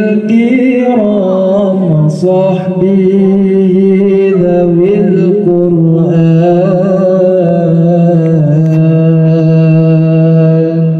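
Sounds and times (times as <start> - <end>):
man chanting through loudspeaker: 0.0 - 10.9.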